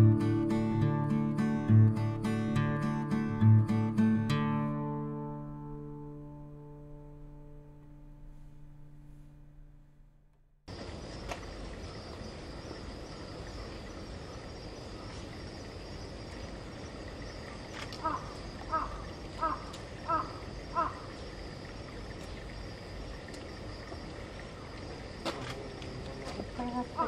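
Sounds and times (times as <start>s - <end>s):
insects droning: 0.0s - 8.0s, 10.7s - 27.0s.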